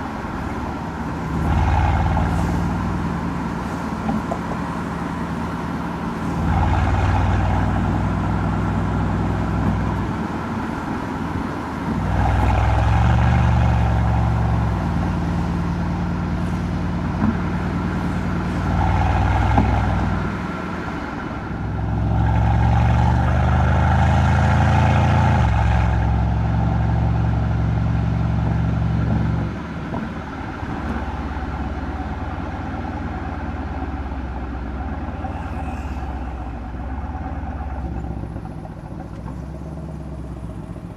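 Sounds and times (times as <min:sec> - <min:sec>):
car exhaust accelerating: 0:00.0 - 0:40.9.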